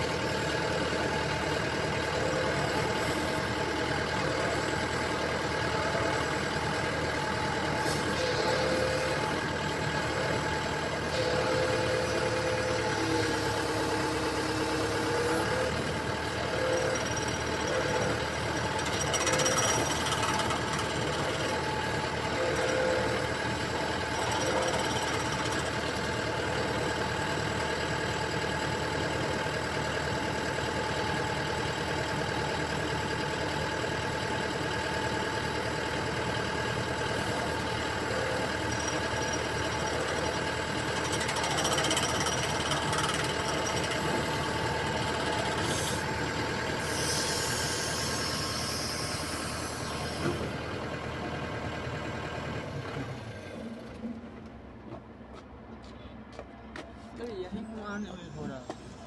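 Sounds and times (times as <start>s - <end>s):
excavator running: 0.0s - 59.0s.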